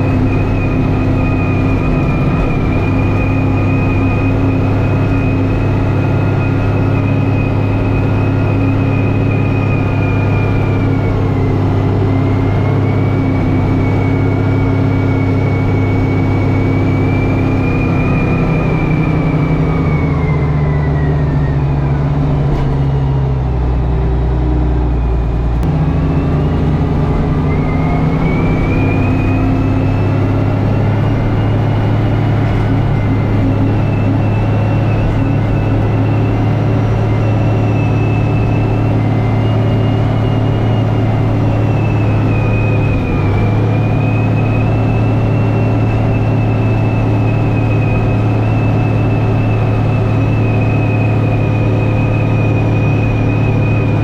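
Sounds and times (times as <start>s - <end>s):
high whine: 0.0s - 54.0s
tractor engine under load: 0.0s - 54.0s.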